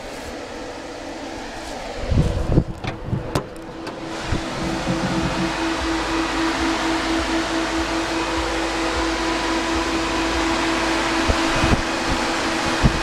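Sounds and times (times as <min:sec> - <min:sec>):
engine idling: 0:00.0 - 0:13.0
radiator cooling fans whooshing: 0:00.0 - 0:13.0.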